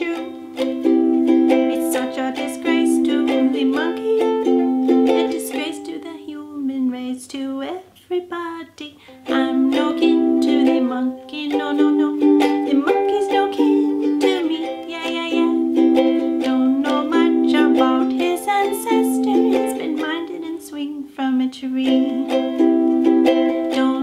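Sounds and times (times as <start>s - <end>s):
ukulele strumming: 0.0s - 7.2s, 8.4s - 24.0s
woman singing: 0.0s - 24.0s.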